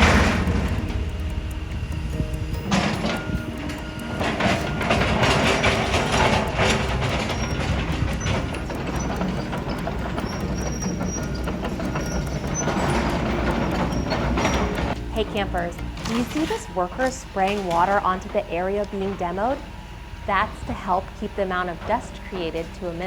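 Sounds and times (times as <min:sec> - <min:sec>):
diesel engine rumble: 0:00.0 - 0:23.0.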